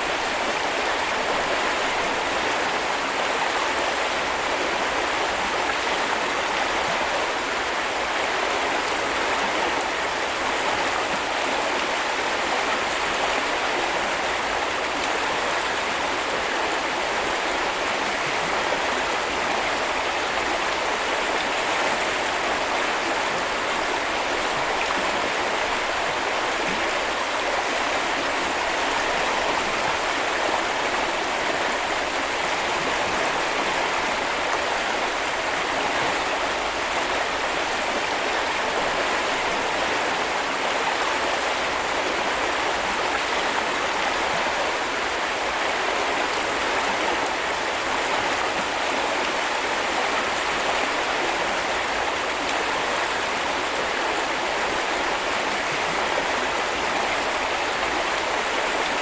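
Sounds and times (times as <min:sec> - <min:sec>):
brook flowing and babbling: 0:00.0 - 0:59.0.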